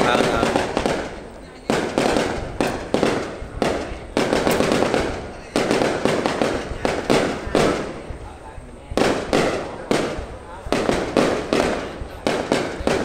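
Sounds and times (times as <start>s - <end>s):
firework shells bursting with echo: 0.0s - 13.0s.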